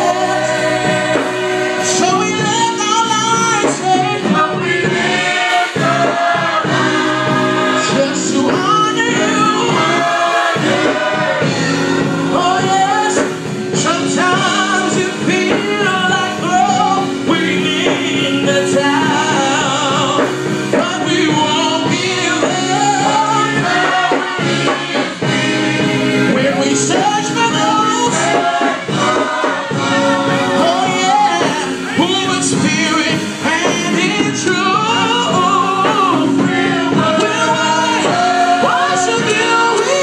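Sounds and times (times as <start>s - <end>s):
gospel choir singing: 0.0s - 40.0s.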